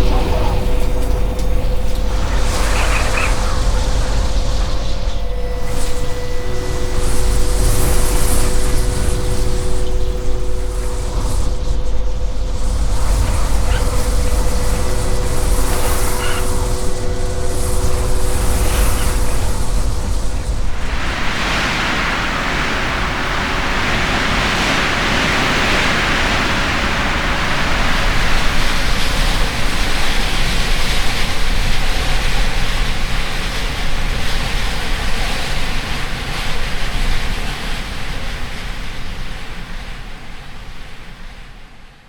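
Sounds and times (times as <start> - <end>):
wind blowing hard: 0.0 - 41.4.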